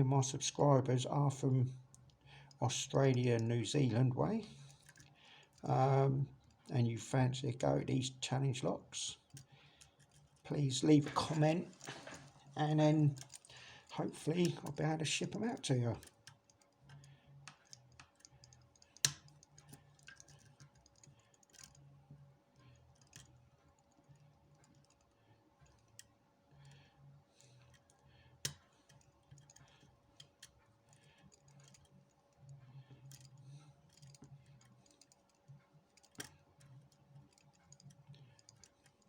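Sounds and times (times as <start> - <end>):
faint steady hum: 0.0 - 39.0
lock picks clicking and scraping: 1.8 - 3.6, 4.5 - 5.7, 9.1 - 22.0, 22.6 - 39.0.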